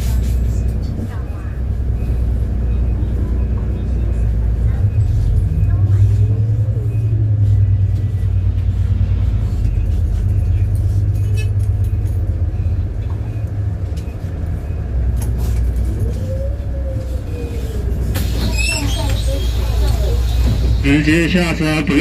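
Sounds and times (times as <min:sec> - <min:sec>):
bus engine and road rumble: 0:00.0 - 0:22.0
drivetrain whine: 0:00.0 - 0:22.0.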